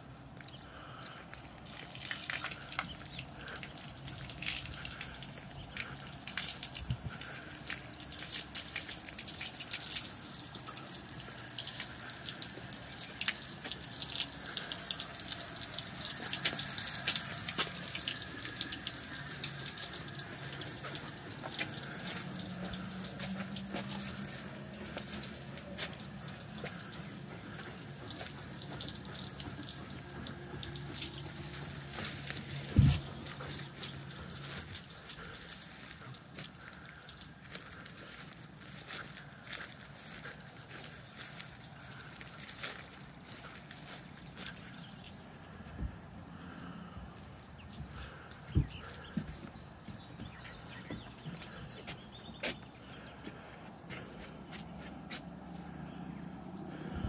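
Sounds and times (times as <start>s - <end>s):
small drips and crackles: 0.0s - 57.0s
water running and splashing: 0.8s - 45.8s, 46.4s - 57.0s.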